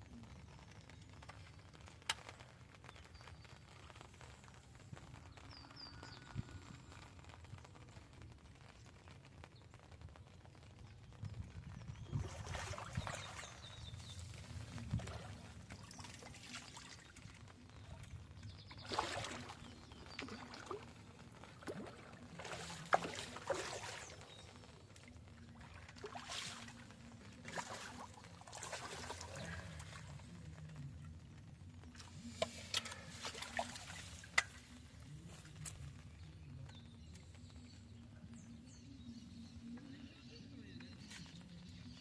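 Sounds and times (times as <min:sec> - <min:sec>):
water splashing and trickling: 0:00.0 - 0:38.5.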